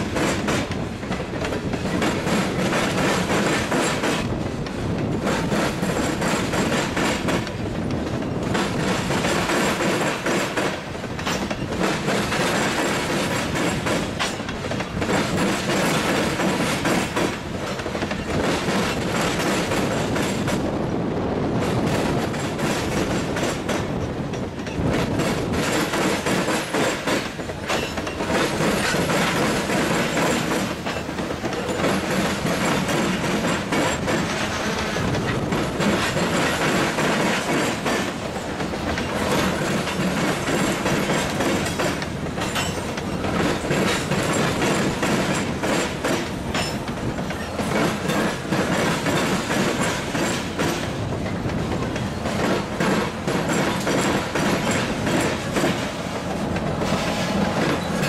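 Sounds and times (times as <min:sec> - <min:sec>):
wheels clicking over track joints: 0:00.0 - 0:20.6, 0:21.8 - 0:58.0
freight train rumbling past: 0:00.0 - 0:58.0.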